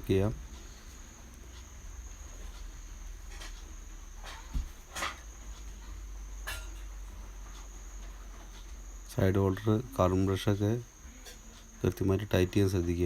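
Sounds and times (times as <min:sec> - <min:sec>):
crickets trilling: 0:00.0 - 0:13.0
low hum: 0:00.0 - 0:13.0.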